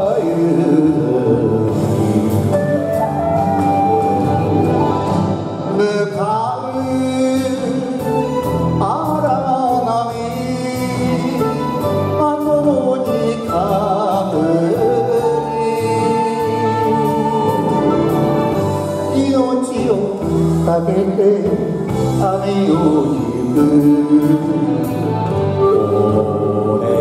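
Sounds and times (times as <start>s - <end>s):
man singing into microphone: 0.0s - 3.8s, 5.6s - 27.0s
karaoke backing track: 0.0s - 27.0s.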